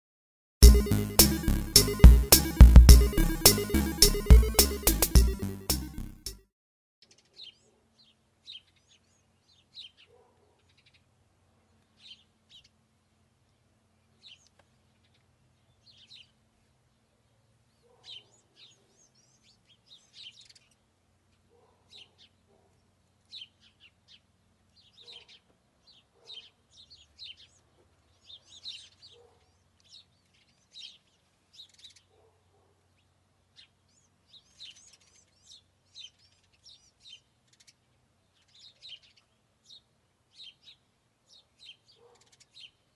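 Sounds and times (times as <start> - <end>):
small birds chirping: 7.0 - 42.9.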